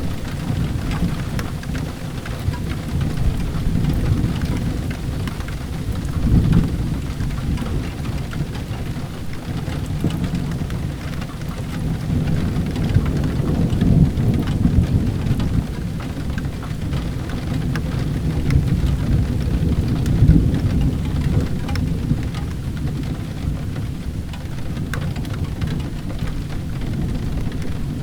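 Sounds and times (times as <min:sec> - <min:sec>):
rolling thunder: 0:00.0 - 0:28.0
steady rain: 0:00.0 - 0:28.0.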